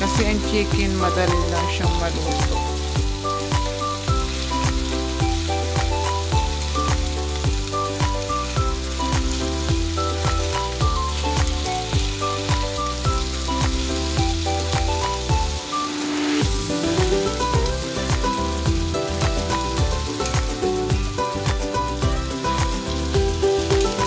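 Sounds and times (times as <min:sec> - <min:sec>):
background music with steady beat: 0:00.0 - 0:24.0
chicken sizzling in oil: 0:00.0 - 0:24.0.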